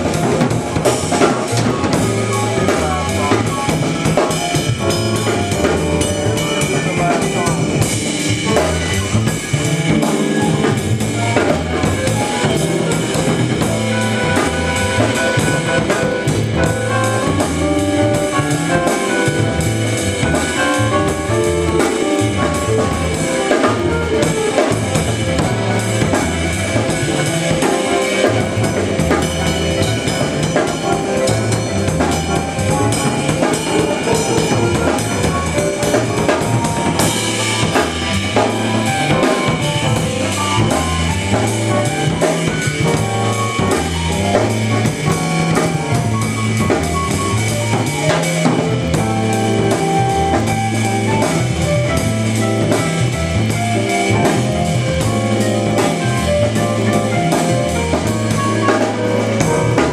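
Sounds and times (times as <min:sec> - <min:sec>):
bass line: 0:00.0 - 0:59.9
drum kit groove: 0:00.0 - 0:59.9
electric keyboard chords: 0:00.0 - 0:59.9.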